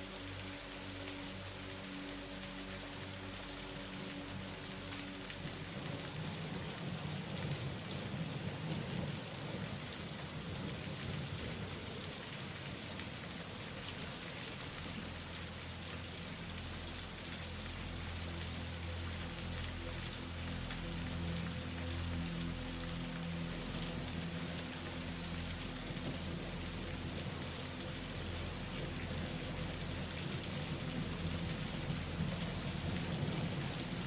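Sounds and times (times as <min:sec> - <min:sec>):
soft low background music: 0:00.0 - 0:34.0
steady rain falling: 0:00.0 - 0:34.0.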